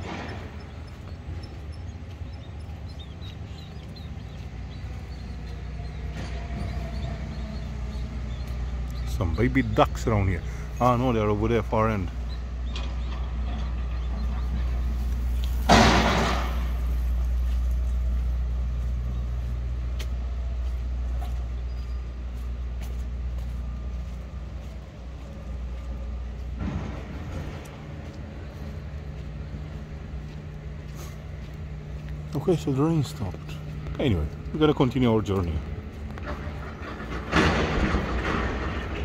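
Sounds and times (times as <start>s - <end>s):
vehicle engine idling: 0.0s - 39.0s.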